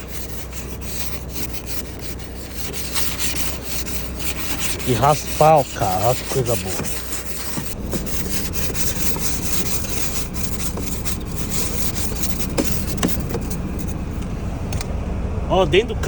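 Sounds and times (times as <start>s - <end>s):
ice scraper scraping ice: 0.0s - 14.3s.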